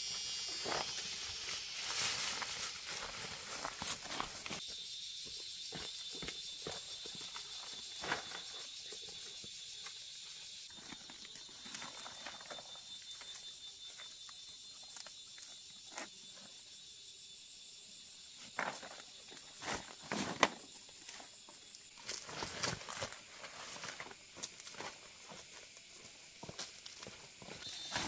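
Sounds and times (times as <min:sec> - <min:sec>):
dry leaves and twigs crackling: 0:00.0 - 0:04.8, 0:05.6 - 0:16.1, 0:18.5 - 0:28.0.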